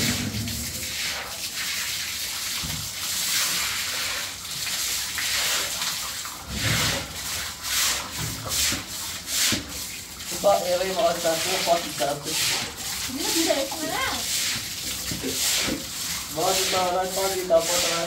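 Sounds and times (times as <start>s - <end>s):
broom scrubbing wet floor: 0.0s - 18.0s
water gushing from hose onto concrete: 0.0s - 18.0s.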